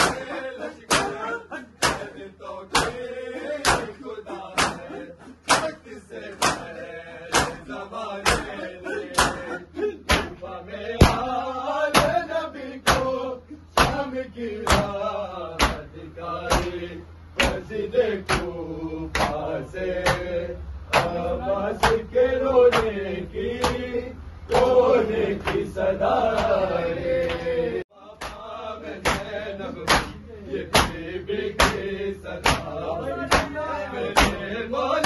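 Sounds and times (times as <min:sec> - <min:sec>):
men chanting a lament: 0:00.0 - 0:35.0.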